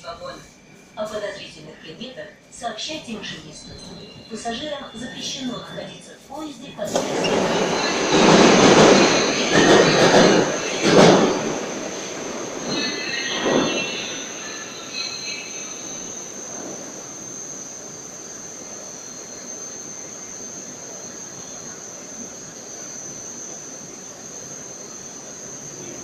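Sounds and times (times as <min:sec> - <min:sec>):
metro train humming: 0:00.0 - 0:26.0
high squeal: 0:03.3 - 0:05.7, 0:06.9 - 0:26.0.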